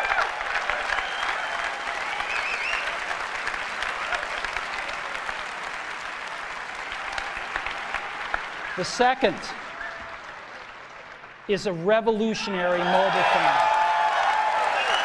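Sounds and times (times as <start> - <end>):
audience applauding: 0.0 - 11.5, 12.6 - 15.0.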